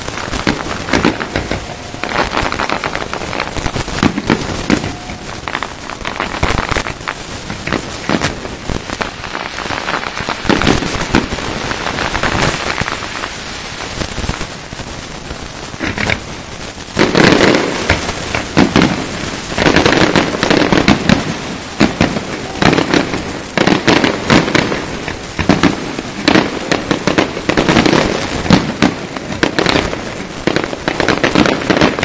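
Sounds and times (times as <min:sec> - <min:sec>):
firework shells bursting: 0:00.0 - 0:32.0
fireworks crackling: 0:00.0 - 0:32.0.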